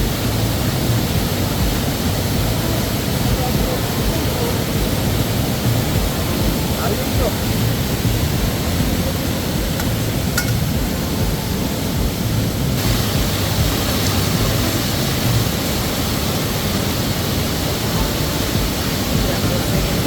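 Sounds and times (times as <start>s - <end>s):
bright hiss: 0.0s - 20.0s
river rushing: 0.0s - 20.0s.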